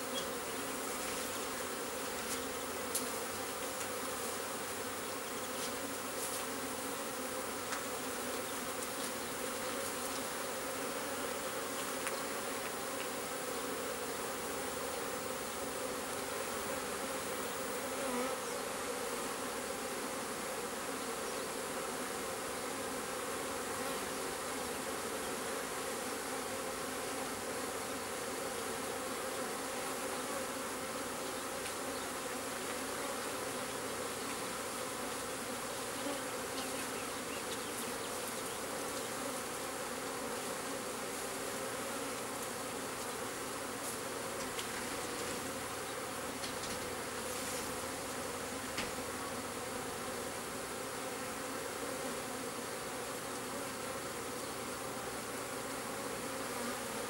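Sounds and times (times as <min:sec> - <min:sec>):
bee swarm buzzing: 0:00.0 - 0:57.0.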